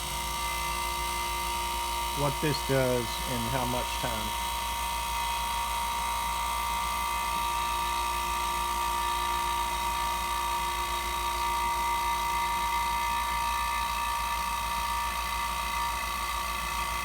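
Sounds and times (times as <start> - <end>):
vacuum pump running: 0.0 - 17.0.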